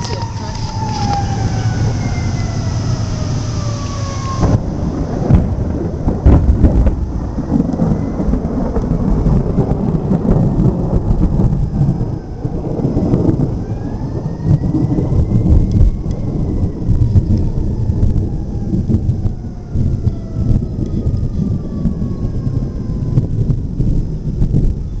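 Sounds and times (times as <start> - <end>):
rain falling: 0.0 - 25.0
rolling thunder: 0.0 - 25.0.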